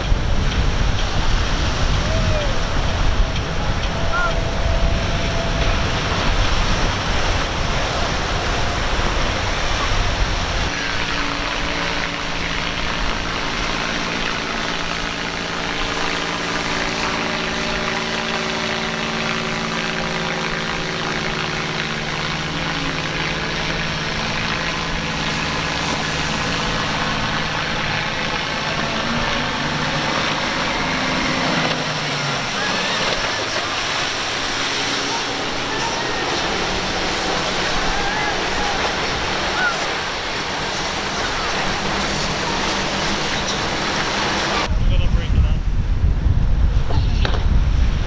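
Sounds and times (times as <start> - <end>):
boat engine drone: 0.0 - 48.0
wind rumble: 0.0 - 48.0
breaking water: 5.4 - 44.7.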